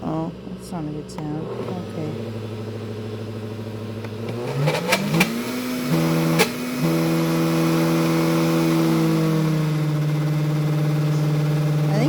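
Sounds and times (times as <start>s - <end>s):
blender motor running: 0.0s - 12.0s.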